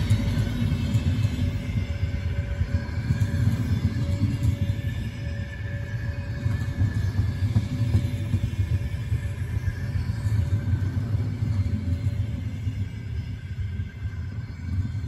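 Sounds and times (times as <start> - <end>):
faint high whine: 0.0 - 15.0
train rolling past: 0.0 - 15.0.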